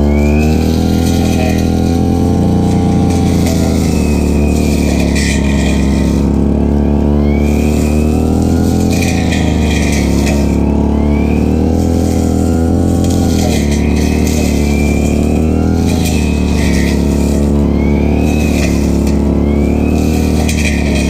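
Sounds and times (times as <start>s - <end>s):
blade swishing through grass: 0.0s - 21.0s
brush cutter engine running: 0.0s - 21.0s.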